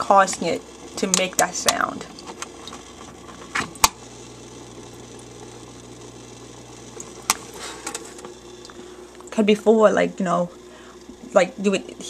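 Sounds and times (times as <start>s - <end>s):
aquarium filter humming: 0.0s - 12.0s.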